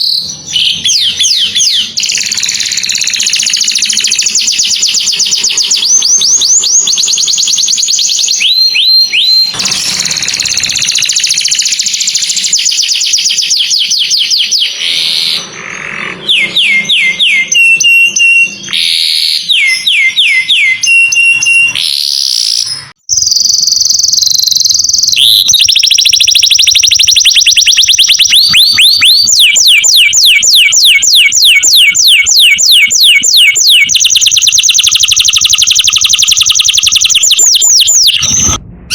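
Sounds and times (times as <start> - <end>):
canary singing fast trills: 0.0 - 38.6.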